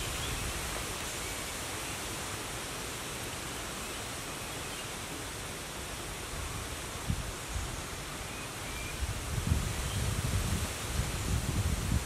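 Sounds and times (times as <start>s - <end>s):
forest ambience hiss: 0.0s - 12.0s.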